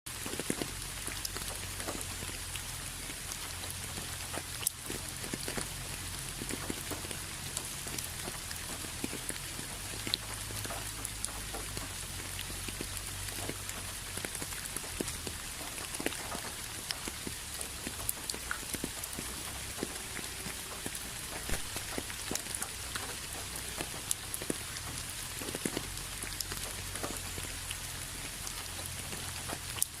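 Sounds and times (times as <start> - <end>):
rain falling: 0.1 - 30.0.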